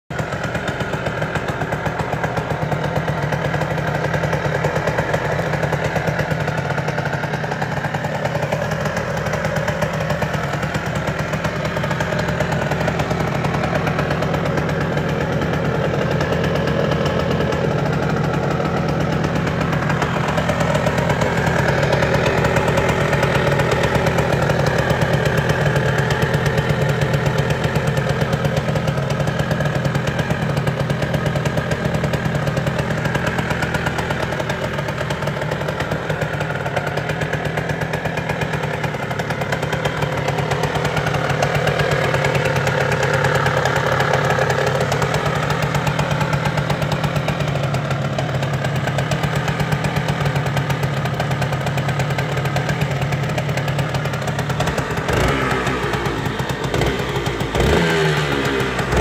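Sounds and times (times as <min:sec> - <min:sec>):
motorcycle engine idling: 0:00.1 - 0:59.0.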